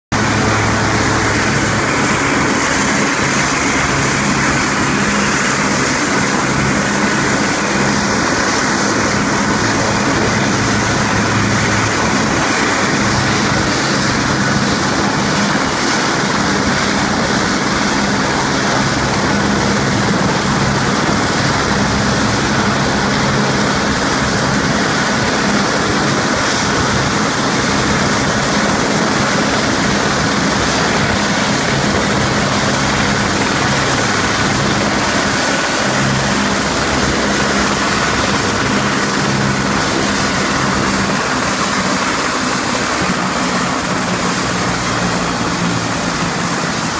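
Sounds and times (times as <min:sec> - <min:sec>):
helicopter idling with rotor turning: 0:00.1 - 0:46.9
helicopter lifting off and flying away: 0:00.1 - 0:46.9.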